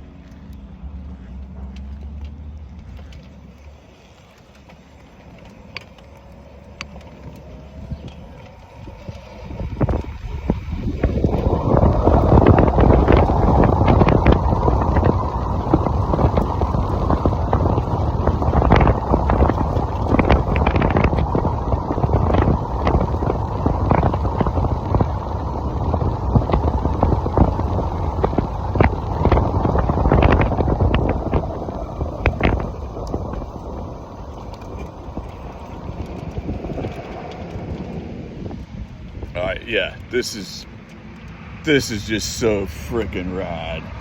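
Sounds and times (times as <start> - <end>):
crackles: 0.0 - 44.0
wind buffeting microphone: 5.4 - 44.0.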